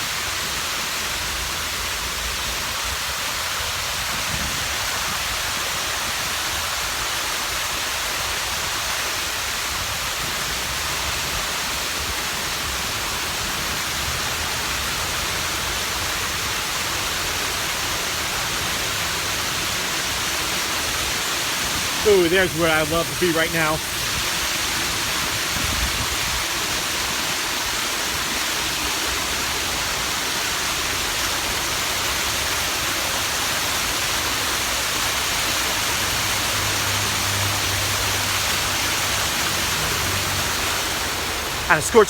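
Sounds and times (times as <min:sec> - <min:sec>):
fountain water falling: 0:00.0 - 0:42.0.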